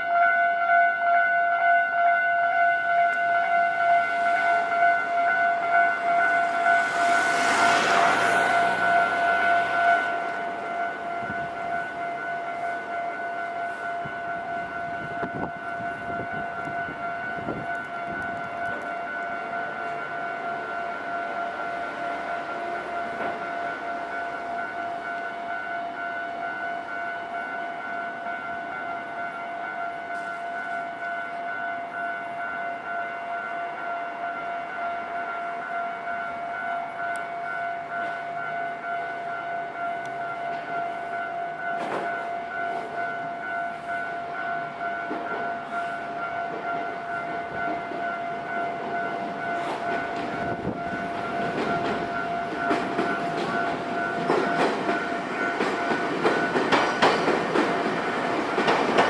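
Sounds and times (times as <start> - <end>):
approaching train: 0.0 - 59.0.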